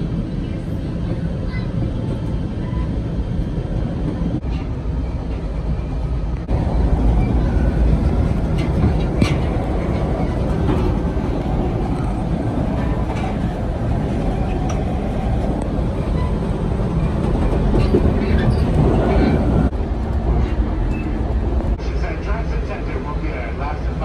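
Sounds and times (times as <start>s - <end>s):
train rumble from inside car: 0.0s - 24.0s.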